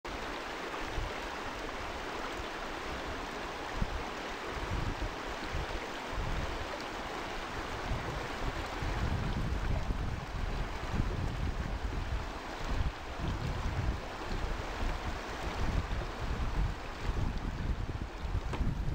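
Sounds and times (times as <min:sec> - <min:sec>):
river rapids rushing over rocks: 0:00.1 - 0:18.9
wind rumble on microphone: 0:00.8 - 0:02.0, 0:02.9 - 0:18.9.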